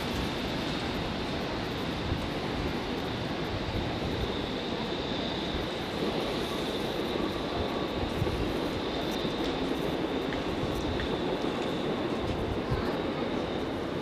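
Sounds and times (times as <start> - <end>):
faint high whine: 0.0 - 14.0
train running noise: 0.0 - 14.0.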